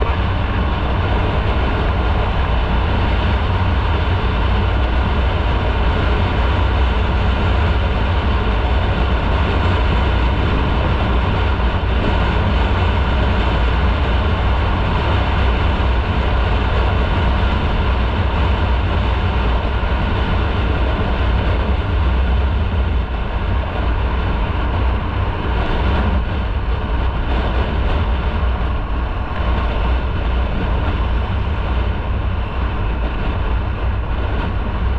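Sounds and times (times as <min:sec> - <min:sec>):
road and wind noise: 0:00.0 - 0:34.9.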